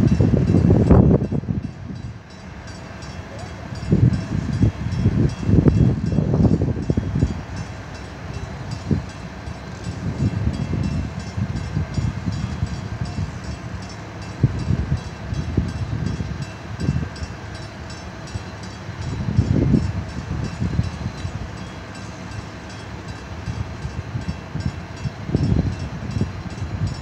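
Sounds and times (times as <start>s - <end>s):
wind buffeting microphone: 0.0s - 2.8s, 3.7s - 17.9s, 18.8s - 21.8s, 23.2s - 27.0s.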